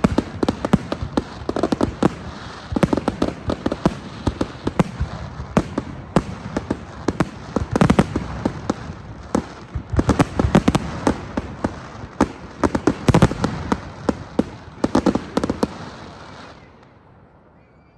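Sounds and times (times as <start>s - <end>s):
fireworks bangs and crackles: 0.0s - 17.2s.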